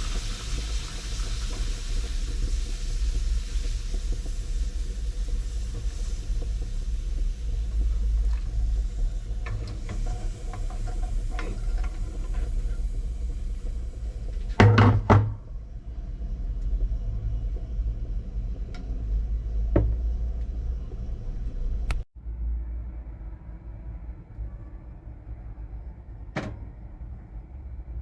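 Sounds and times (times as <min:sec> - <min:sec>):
steady low rumble: 0:01.3 - 0:14.6, 0:15.4 - 0:28.0.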